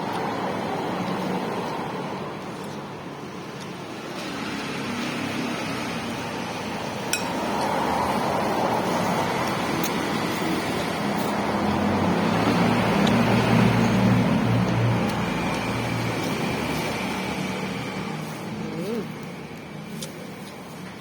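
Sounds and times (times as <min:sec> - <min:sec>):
passing road traffic: 0:00.0 - 0:21.0
vehicle engine approaching: 0:03.9 - 0:20.8.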